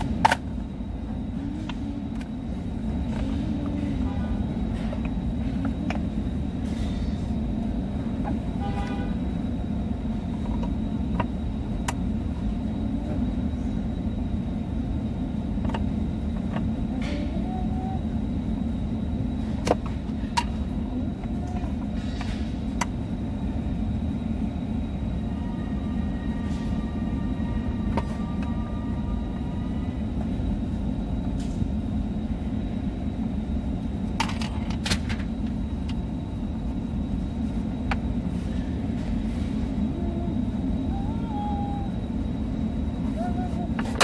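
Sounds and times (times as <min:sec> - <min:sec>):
low background rumble: 0:00.0 - 0:44.0.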